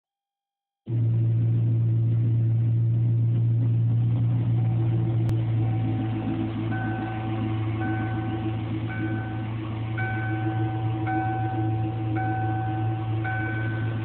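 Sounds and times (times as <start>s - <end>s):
car engine idling: 0.9s - 14.0s.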